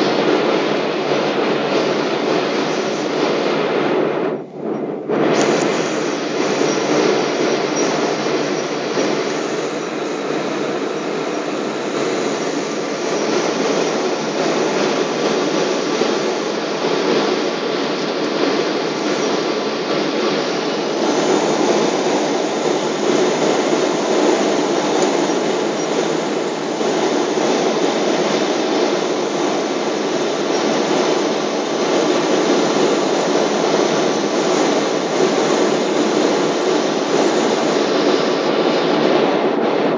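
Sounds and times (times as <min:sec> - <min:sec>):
airplane engines roaring in cabin: 0:00.0 - 0:39.9.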